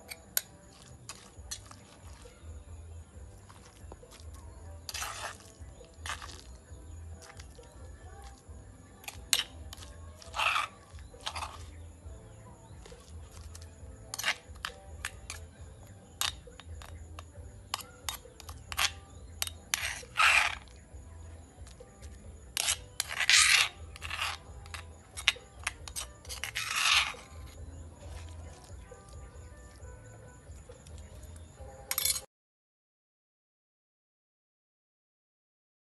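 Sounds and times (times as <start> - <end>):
spoon scraping stone mortar: 0.0 - 32.3.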